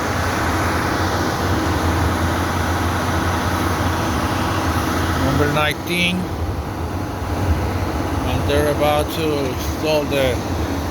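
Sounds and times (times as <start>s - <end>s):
engine humming: 0.0s - 10.9s.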